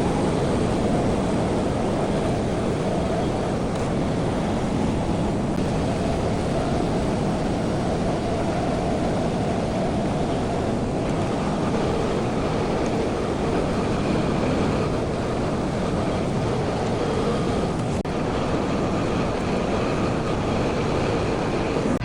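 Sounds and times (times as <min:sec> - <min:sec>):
loader scooping snow: 0:00.0 - 0:22.0
tractor engine running under load: 0:00.0 - 0:22.0.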